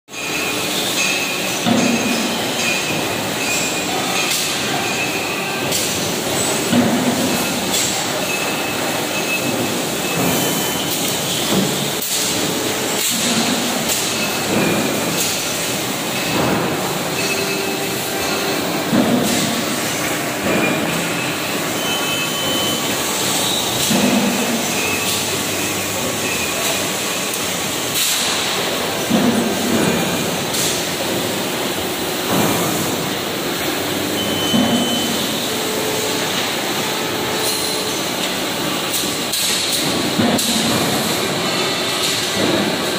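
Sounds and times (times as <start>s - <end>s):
hydraulic press running: 0.2s - 42.9s.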